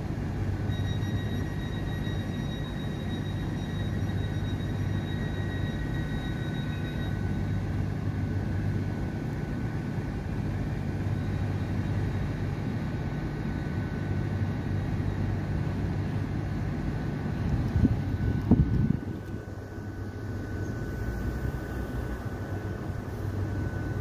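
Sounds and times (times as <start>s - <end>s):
high-pitched whine: 0.0s - 24.0s
train engine low hum: 0.0s - 24.0s.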